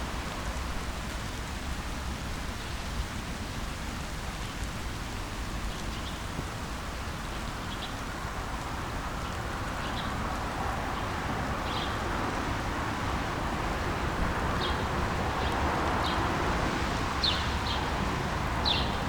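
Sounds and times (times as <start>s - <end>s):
background traffic: 0.0s - 19.0s
rain hiss: 0.0s - 19.0s.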